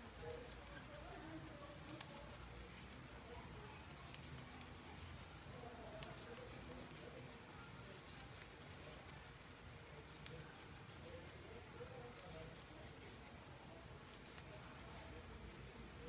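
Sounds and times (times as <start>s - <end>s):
crochet hook scratching yarn: 0.0s - 16.0s
low room noise: 0.0s - 16.0s.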